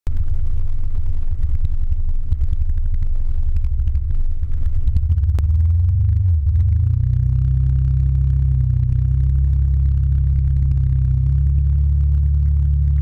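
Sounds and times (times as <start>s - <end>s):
motor scooter engine idling: 0.2s - 13.0s.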